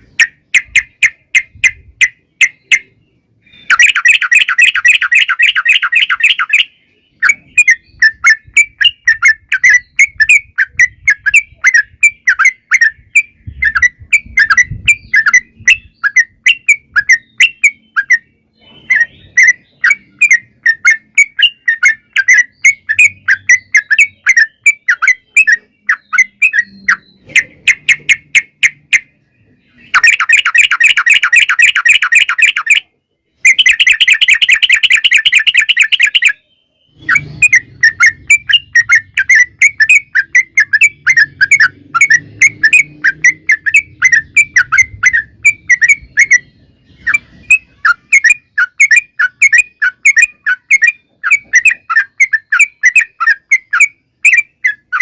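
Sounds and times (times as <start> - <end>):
bulbul chattering song: 0.0 - 55.0
fast bird trills: 0.0 - 55.0.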